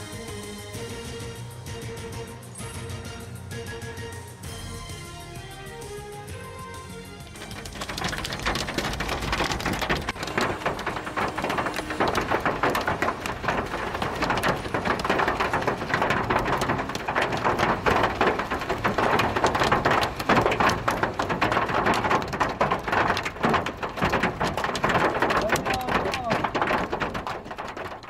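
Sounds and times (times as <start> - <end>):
hail and rain pelting cars: 0.0 - 28.0.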